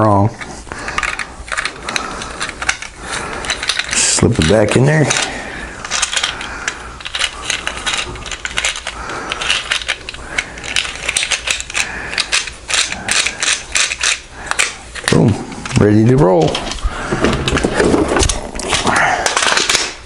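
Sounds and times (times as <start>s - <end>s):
plastic and metal clicks and rattles: 0.9s - 15.8s, 16.4s - 20.0s.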